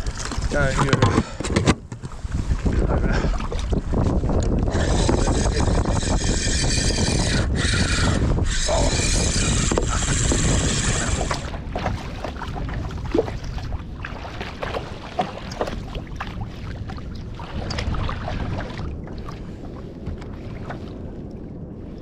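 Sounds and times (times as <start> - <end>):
water lapping against a kayak: 0.0 - 22.0
wind on microphone: 0.0 - 22.0.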